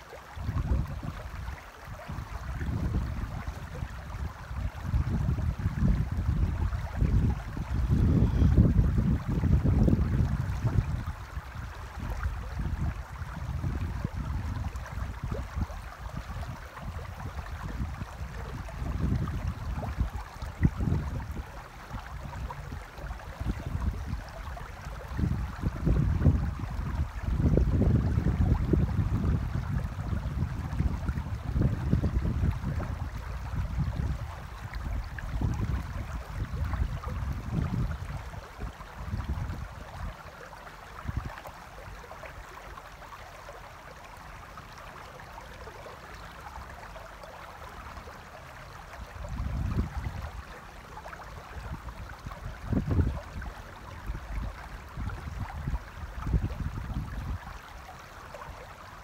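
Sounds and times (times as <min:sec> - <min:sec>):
river flowing over stones: 0:00.0 - 0:59.0
wind rumbling on microphone: 0:00.0 - 0:59.0.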